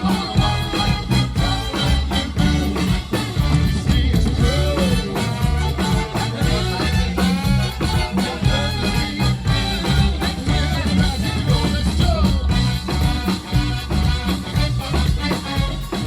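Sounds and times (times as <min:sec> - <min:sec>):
steady drum beat: 0:00.0 - 0:16.0
swing band playing: 0:00.0 - 0:16.0.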